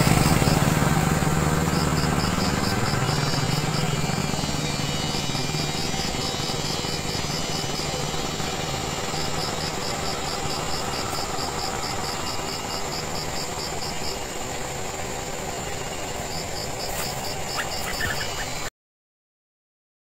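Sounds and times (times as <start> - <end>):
steady hum and hiss: 0.0 - 18.7
insect chirping: 0.1 - 18.7.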